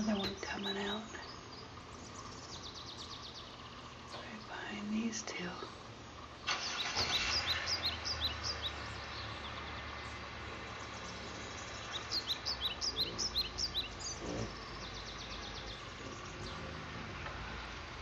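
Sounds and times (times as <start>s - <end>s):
songbird chirping: 0.0s - 18.0s
steady background hiss: 0.0s - 18.0s.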